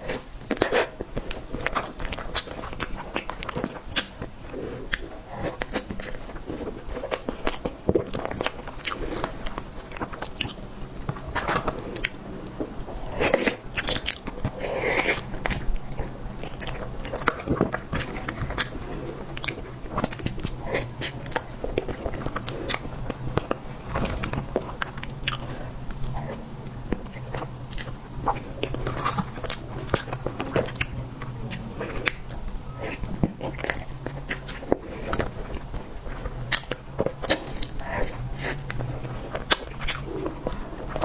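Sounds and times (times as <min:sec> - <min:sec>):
steady low hum: 0:00.0 - 0:41.0
wet chewing: 0:00.0 - 0:41.0.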